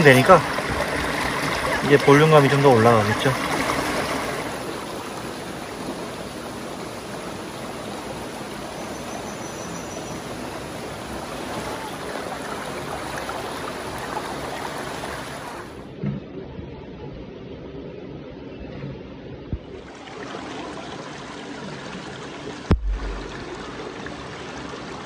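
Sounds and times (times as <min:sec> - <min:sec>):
stream rushing over rocks: 0:00.0 - 0:15.8, 0:19.9 - 0:25.0.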